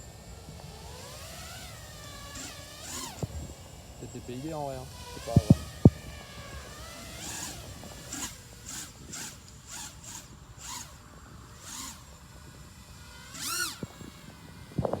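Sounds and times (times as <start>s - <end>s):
drone motors spinning up and down: 0.0s - 15.0s.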